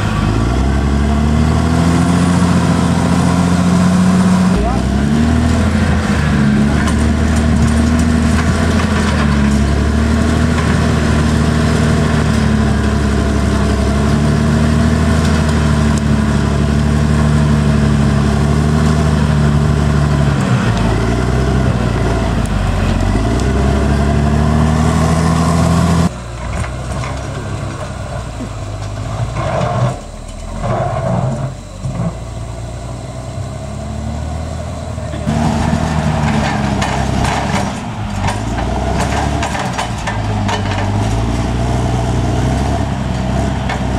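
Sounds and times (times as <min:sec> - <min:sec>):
bulldozer diesel engine under load: 0:00.0 - 0:43.9.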